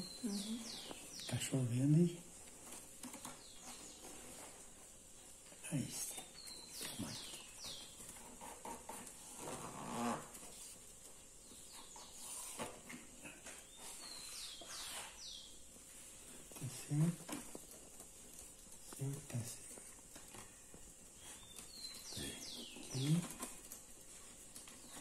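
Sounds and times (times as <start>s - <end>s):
faint rustling: 0.0s - 25.0s.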